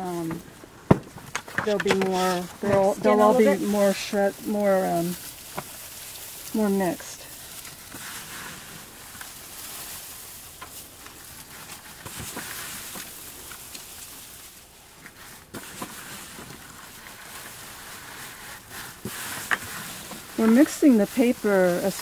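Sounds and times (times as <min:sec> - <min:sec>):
paper and straw rustling: 0:00.0 - 0:22.0
light crackles: 0:00.2 - 0:22.0.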